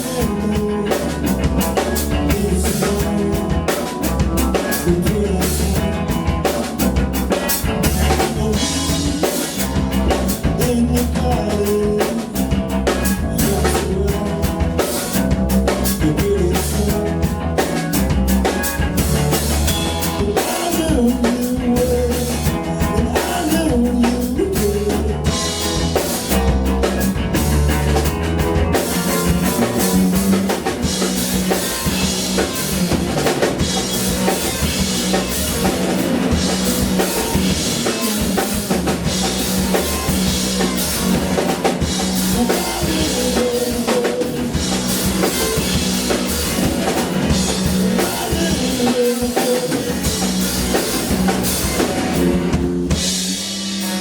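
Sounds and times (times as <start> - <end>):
bass guitar: 0.0 - 54.0
drum kit: 0.0 - 54.0
live rock band playing: 0.0 - 54.0.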